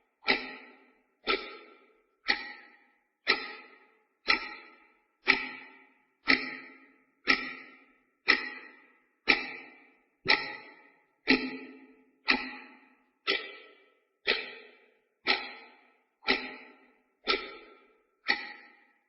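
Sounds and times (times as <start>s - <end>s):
clock ticking: 0.0s - 19.0s.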